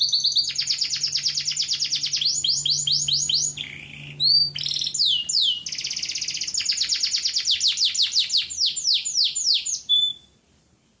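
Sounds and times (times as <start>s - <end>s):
canary singing: 0.0s - 10.4s.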